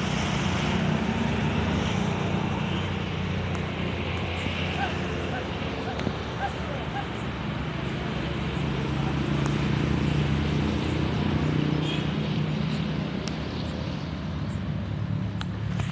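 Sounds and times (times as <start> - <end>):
distant road traffic rumble: 0.0 - 15.9
engine hum: 0.0 - 15.9.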